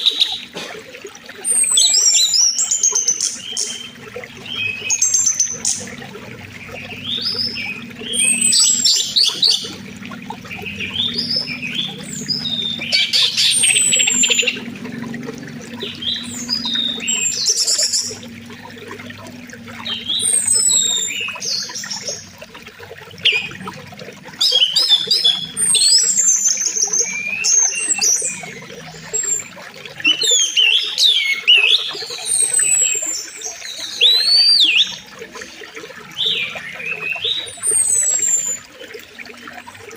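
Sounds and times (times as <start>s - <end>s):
birds chirping and whistling: 1.4s - 14.7s, 15.8s - 18.4s, 19.7s - 22.4s, 23.2s - 23.7s, 24.4s - 35.0s, 36.1s - 38.7s.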